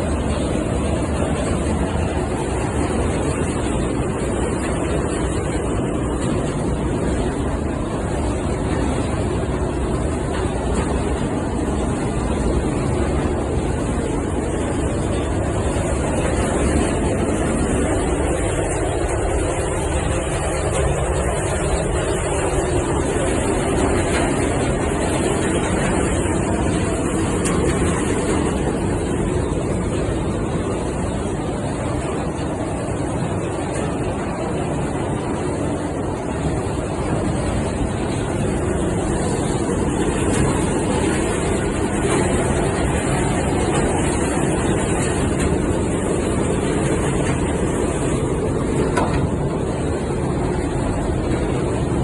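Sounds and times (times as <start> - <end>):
seed-cleaning machine running: 0.0 - 52.0.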